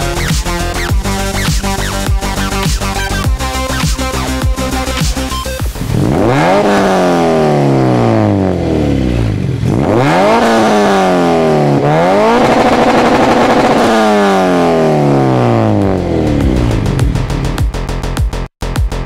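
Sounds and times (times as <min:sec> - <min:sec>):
car engine revving: 0:00.0 - 0:18.5.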